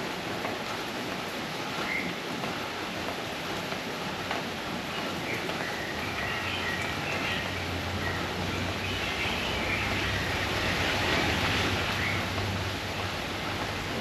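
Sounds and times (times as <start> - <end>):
steady outdoor noise: 0.0 - 14.0.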